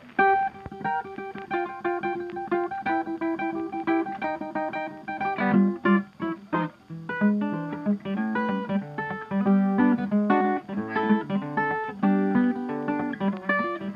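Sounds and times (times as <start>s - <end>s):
plucked acoustic guitar: 0.0s - 13.9s.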